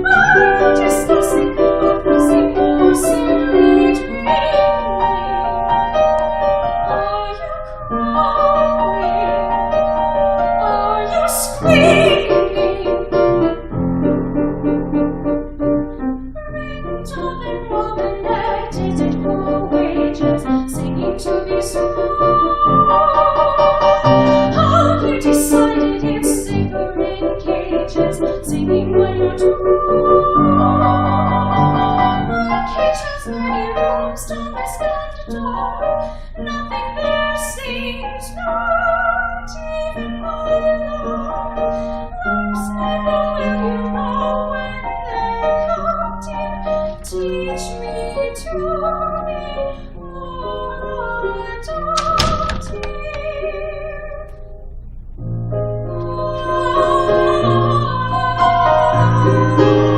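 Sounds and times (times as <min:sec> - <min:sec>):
woman singing operatically: 0:00.0 - 0:05.9, 0:06.8 - 0:09.7, 0:10.4 - 0:13.4, 0:16.4 - 0:54.2, 0:56.1 - 0:59.9
piano accompaniment: 0:00.0 - 0:59.9.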